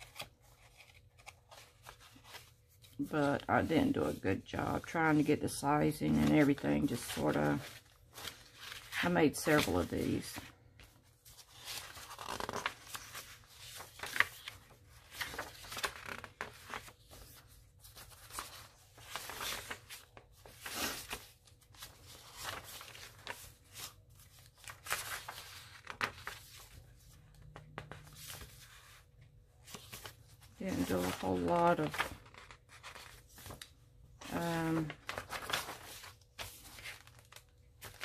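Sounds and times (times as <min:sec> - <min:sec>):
paper rustling and crinkling: 0:00.0 - 0:38.0.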